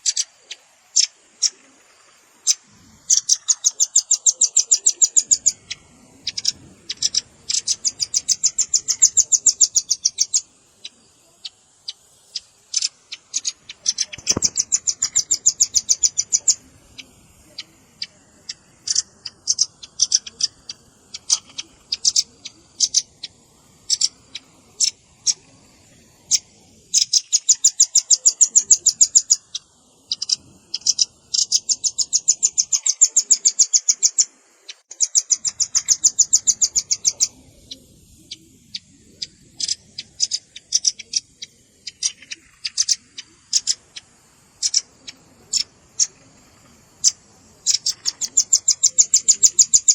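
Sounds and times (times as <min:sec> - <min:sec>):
nuthatch calls: 0:00.0 - 0:49.9.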